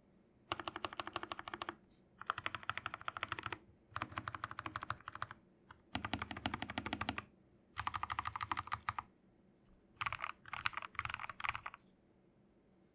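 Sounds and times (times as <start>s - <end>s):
fast mechanical keyboard typing: 0.5s - 9.1s, 10.0s - 11.8s.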